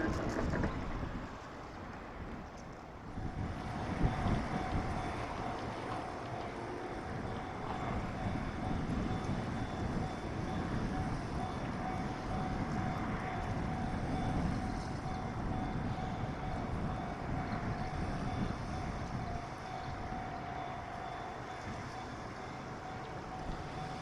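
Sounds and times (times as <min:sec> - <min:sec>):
train rumbling: 0:00.0 - 0:24.0
faint steady tone: 0:03.2 - 0:24.0.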